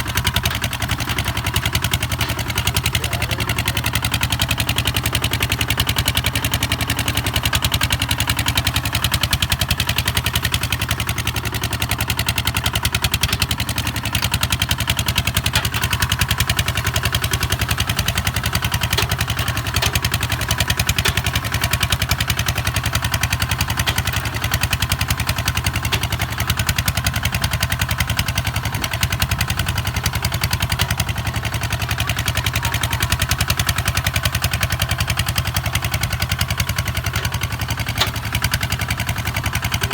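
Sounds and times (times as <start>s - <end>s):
diesel tractor engine puttering: 0.0s - 39.9s.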